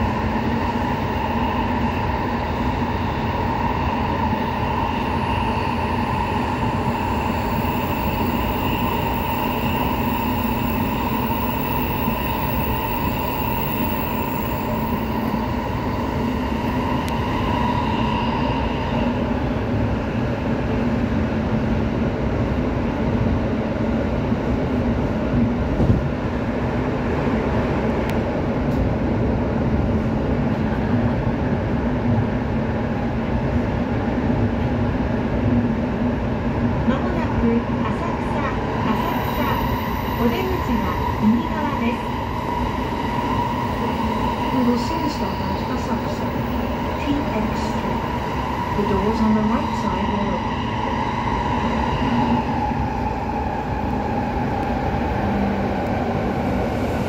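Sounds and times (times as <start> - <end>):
rumble of wheels on rail: 0.0 - 57.0.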